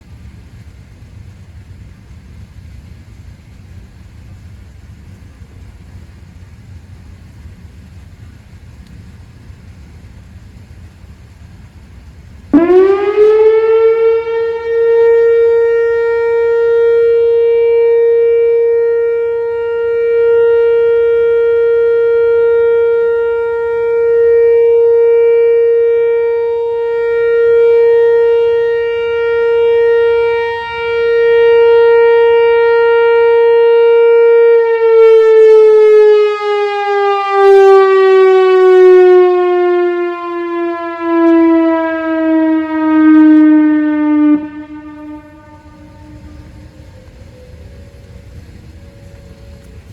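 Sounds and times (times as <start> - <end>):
low-pitched warning siren: 0.1 - 49.9.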